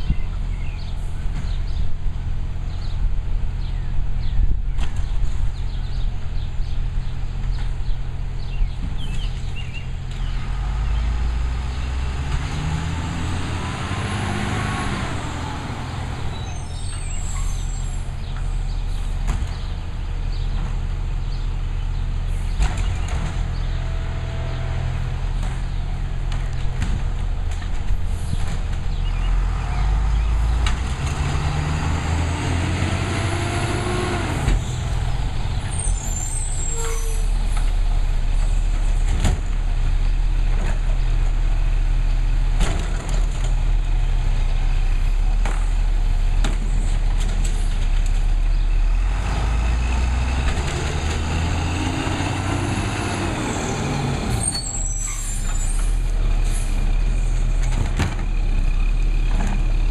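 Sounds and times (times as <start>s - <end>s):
cart and arm banging truck: 0.0s - 59.9s
garbage truck engine droning: 0.0s - 59.9s.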